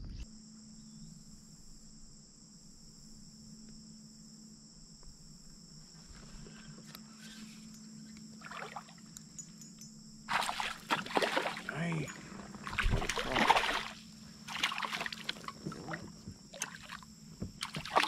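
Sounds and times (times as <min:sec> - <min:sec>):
high-pitched insect chorus: 0:00.2 - 0:18.0.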